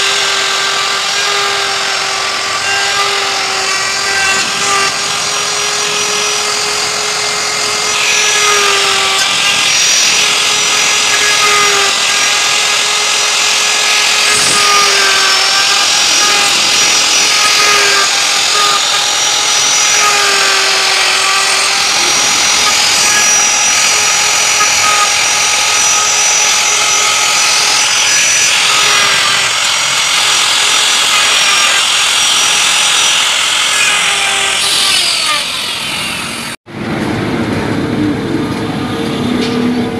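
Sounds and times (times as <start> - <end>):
electric router whining: 0.0 - 36.6
wood cutting hiss: 0.0 - 36.6.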